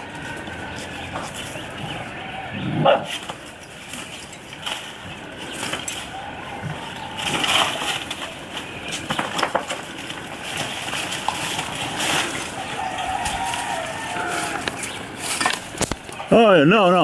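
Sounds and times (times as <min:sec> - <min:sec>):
dry leaves crackling: 0:00.0 - 0:17.0.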